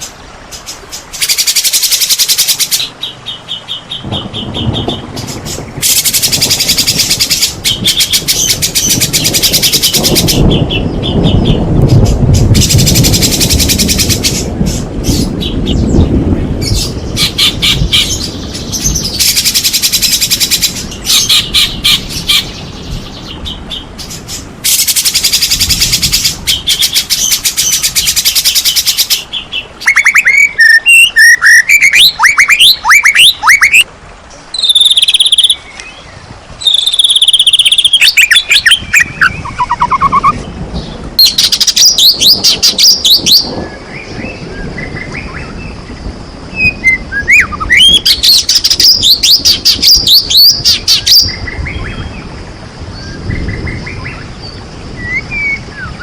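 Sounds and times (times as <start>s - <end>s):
bird singing rapid trills: 0.0s - 33.9s, 34.5s - 52.3s.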